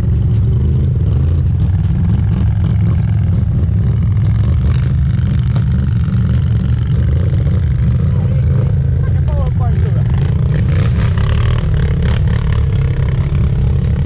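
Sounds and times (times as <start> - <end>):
quad bike engine rumble: 0.0 - 14.0.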